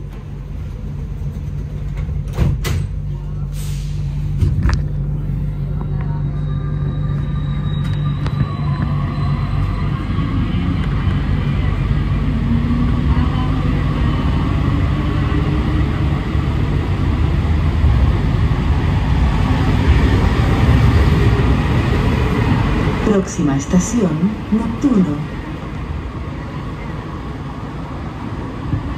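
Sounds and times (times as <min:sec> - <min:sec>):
train low rumble: 0:00.0 - 0:28.9.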